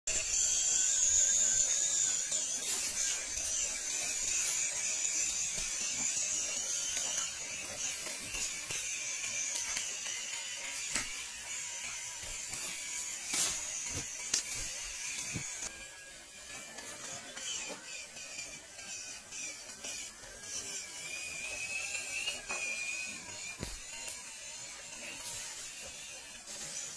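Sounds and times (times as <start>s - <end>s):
toy car electric motor whirring: 0.1s - 26.9s.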